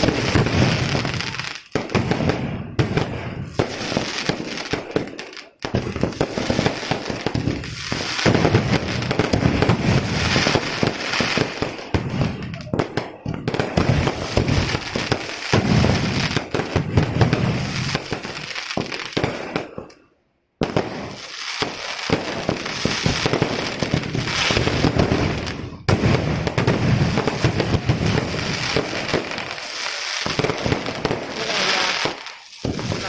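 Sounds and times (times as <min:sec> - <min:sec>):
fireworks cracking and banging: 0:00.0 - 0:33.0.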